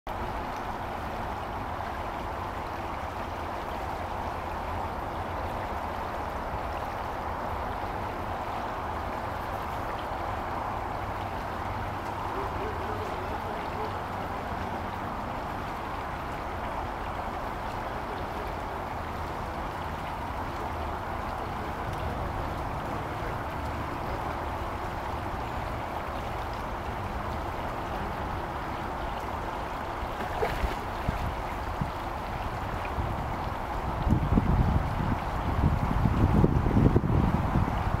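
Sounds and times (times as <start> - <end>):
creek water over gravel: 0.1 - 38.0.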